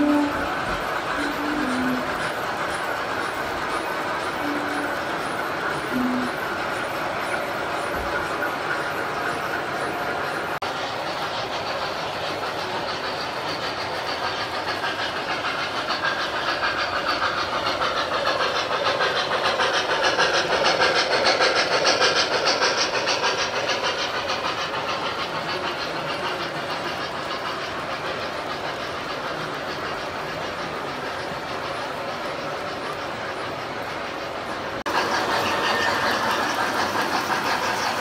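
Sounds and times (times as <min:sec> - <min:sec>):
model train wheels clicking: 0:00.0 - 0:38.0.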